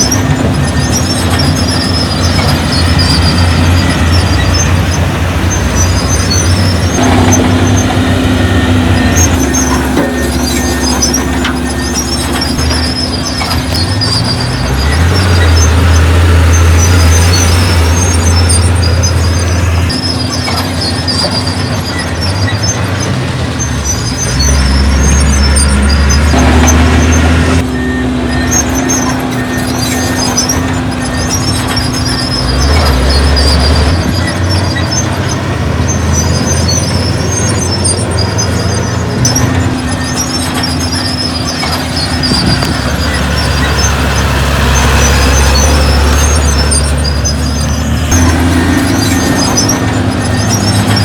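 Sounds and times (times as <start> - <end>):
heavy diesel machinery running: 0.0 - 51.0
high metallic squeaks: 0.0 - 51.0.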